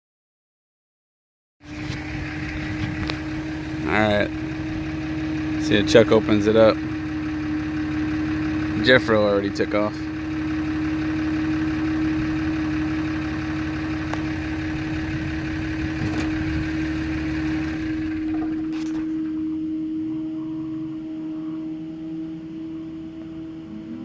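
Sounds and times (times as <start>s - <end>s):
steady engine hum: 1.6s - 24.0s.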